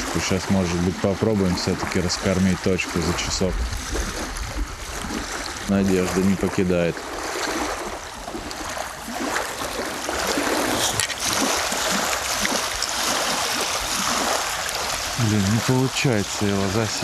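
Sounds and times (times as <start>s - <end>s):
waves lapping and splashing: 0.0s - 17.0s.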